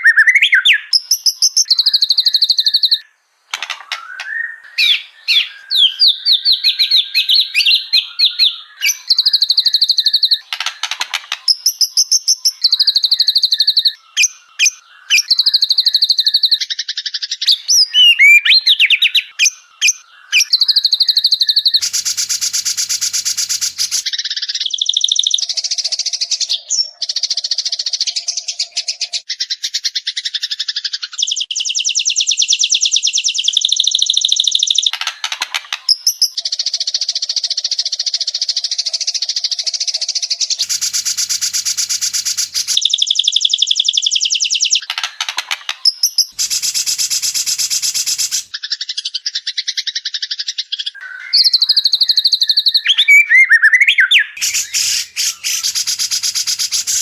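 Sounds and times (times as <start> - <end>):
bird trilling song: 0.0 - 57.0.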